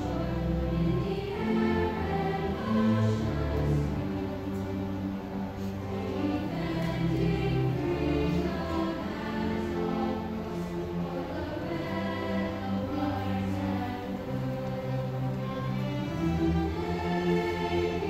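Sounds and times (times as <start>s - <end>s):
bowed cellos and double bass: 0.0s - 18.0s
choir singing held chords: 0.0s - 18.0s.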